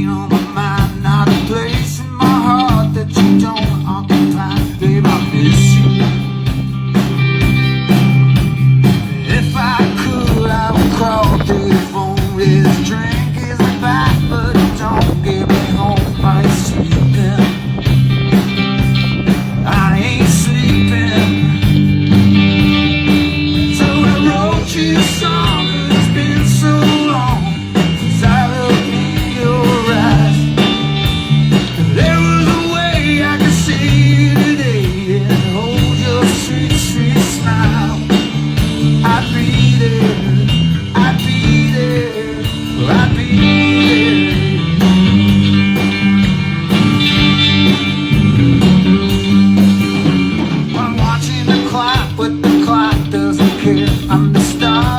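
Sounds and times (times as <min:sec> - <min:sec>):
bass line: 0:00.0 - 0:54.9
blues-rock band playing: 0:00.0 - 0:54.9
drums: 0:00.0 - 0:54.9
electric guitar lead: 0:00.0 - 0:54.9.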